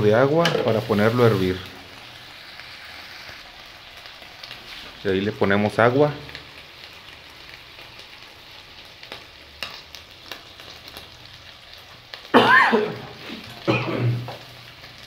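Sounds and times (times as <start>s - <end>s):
food sizzling in pans: 0.0s - 15.0s.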